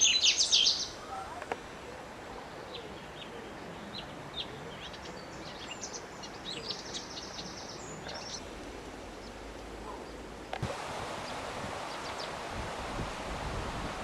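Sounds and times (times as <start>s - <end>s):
songbirds chirping: 0.0s - 13.2s
outdoor background hiss: 0.0s - 14.0s.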